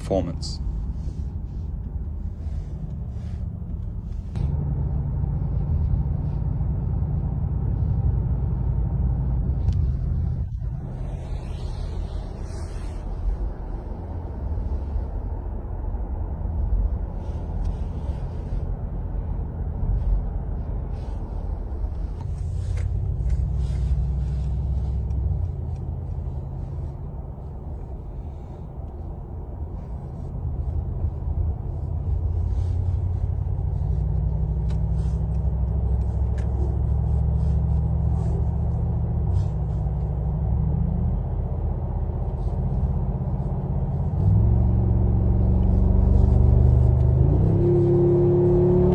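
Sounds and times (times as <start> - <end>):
car engine drone: 0.0 - 48.9
road noise: 0.0 - 48.9.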